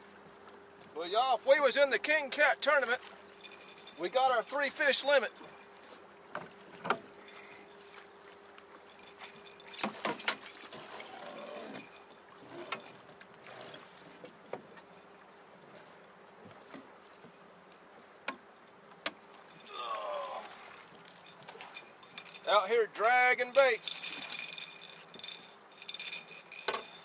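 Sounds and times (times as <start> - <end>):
faint steady hum: 0.0 - 27.0
water sloshing against boat: 0.0 - 27.0.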